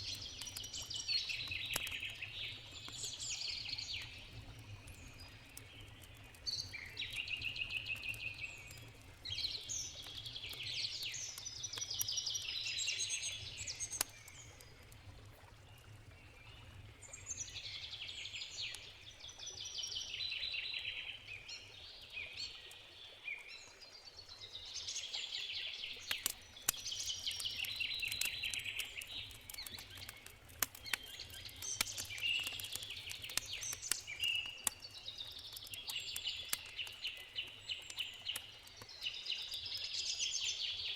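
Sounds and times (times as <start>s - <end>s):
campfire crackling: 0.0s - 19.6s, 25.7s - 40.8s.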